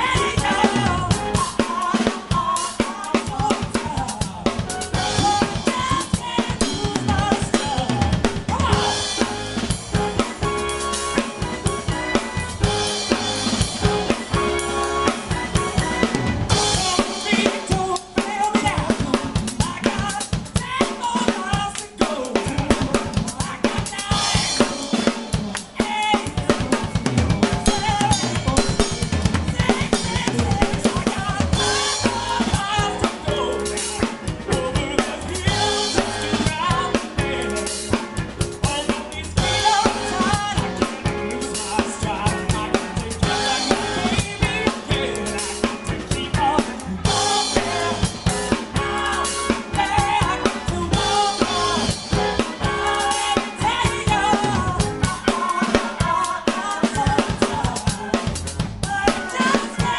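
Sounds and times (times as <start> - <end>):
band playing soul song: 0.0 - 59.9.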